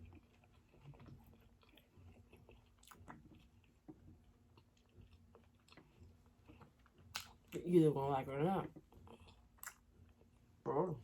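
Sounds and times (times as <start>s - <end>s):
person chewing: 0.0s - 7.6s, 8.8s - 10.6s.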